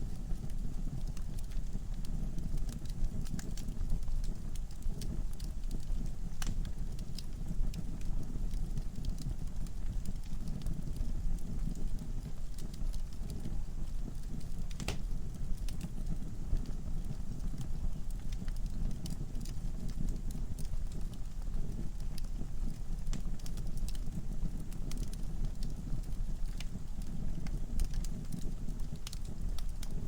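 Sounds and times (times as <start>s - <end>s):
logs crackling and popping: 0.0s - 30.0s
low rumble of flames: 0.0s - 30.0s.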